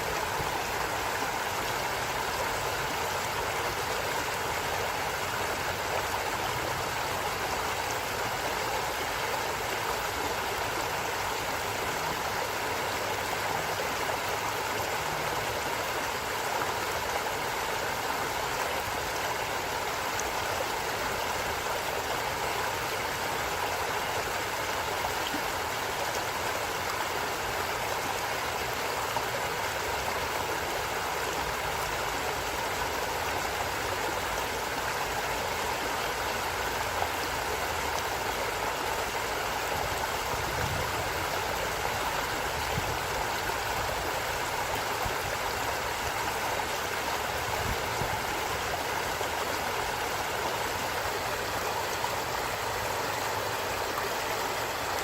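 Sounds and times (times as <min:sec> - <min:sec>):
stream of running water: 0:00.0 - 0:55.0.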